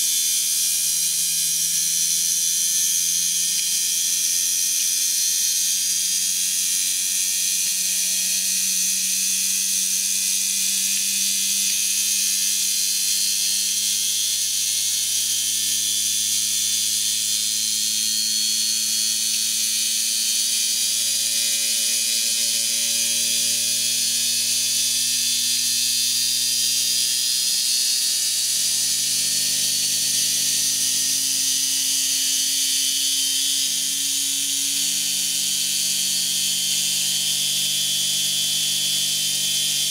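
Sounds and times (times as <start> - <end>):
electric motor whirring with hiss: 0.0 - 39.9.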